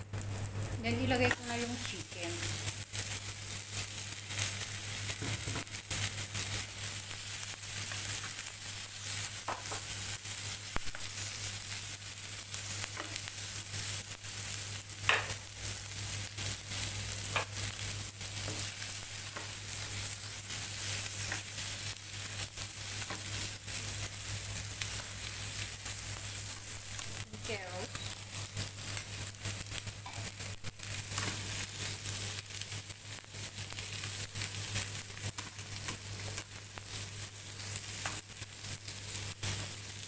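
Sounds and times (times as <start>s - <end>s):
food sizzling in frying pan: 0.0s - 40.0s.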